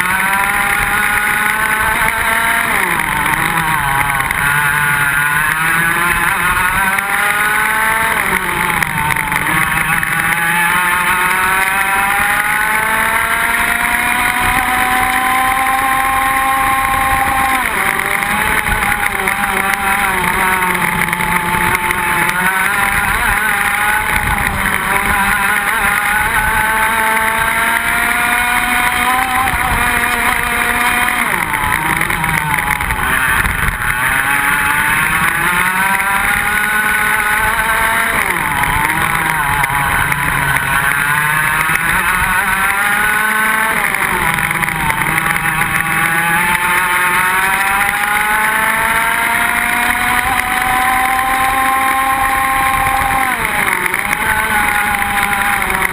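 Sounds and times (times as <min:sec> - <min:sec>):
kart engine at racing speed: 0:00.0 - 0:55.9.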